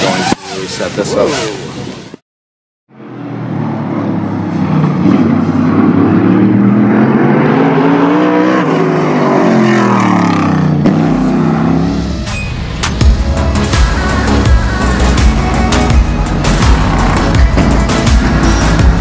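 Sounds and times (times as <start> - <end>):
race car engine: 0.0 - 2.2, 2.9 - 19.0.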